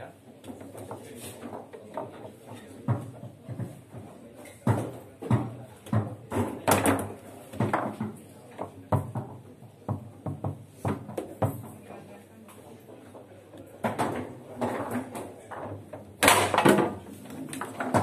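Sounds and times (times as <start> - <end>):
foosball knocks and clacks: 0.4 - 11.9, 12.6 - 18.0.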